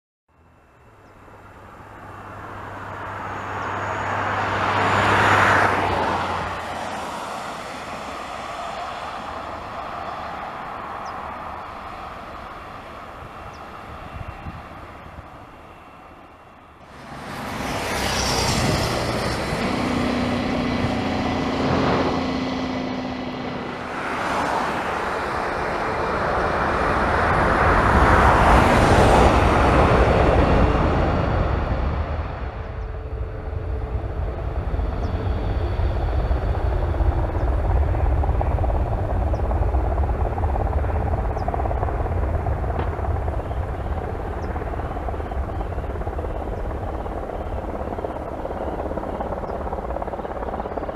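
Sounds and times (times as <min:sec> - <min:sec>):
jet airliner taking off: 0:00.4 - 0:50.9.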